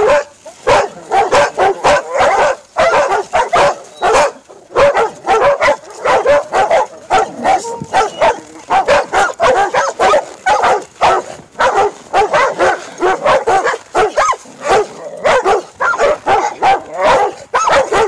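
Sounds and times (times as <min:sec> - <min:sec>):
dogs barking and yipping: 0:00.0 - 0:18.0.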